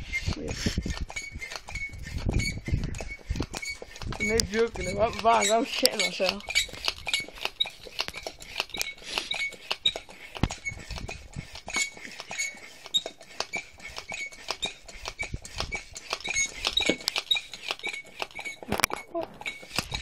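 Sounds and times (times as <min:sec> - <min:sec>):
foot pump squeaking: 0:00.0 - 0:20.0.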